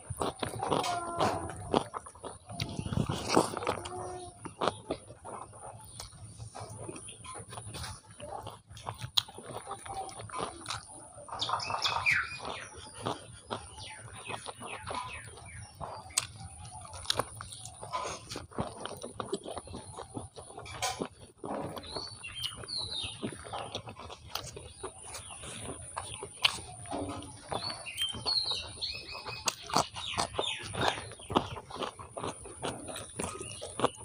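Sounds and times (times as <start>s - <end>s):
chewing and lip-smacking: 0.0s - 34.0s.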